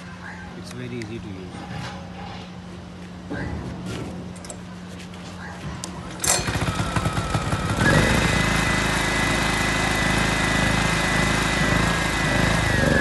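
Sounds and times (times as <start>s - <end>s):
generator running with whine: 0.0s - 13.0s.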